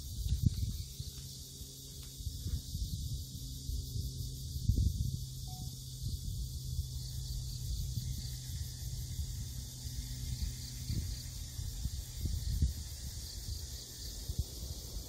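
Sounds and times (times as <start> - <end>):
high-pitched insect chorus: 0.0 - 15.0
wind rumble on microphone: 0.0 - 15.0.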